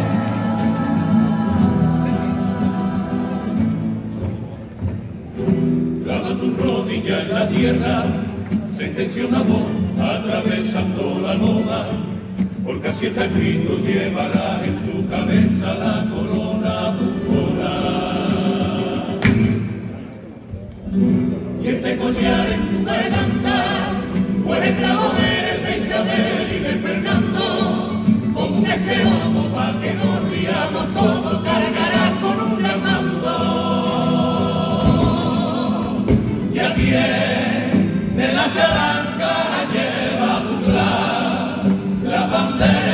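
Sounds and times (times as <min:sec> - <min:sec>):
male chorus singing: 0:00.0 - 0:04.2, 0:06.0 - 0:19.8, 0:21.6 - 0:42.9.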